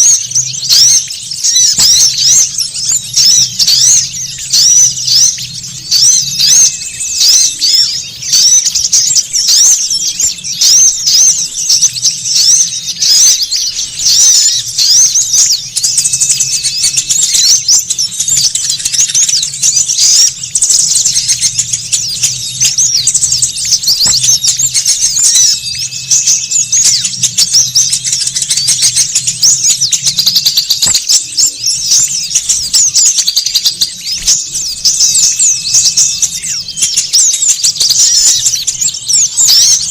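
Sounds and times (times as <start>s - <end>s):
small songbirds chattering: 0.0s - 39.9s.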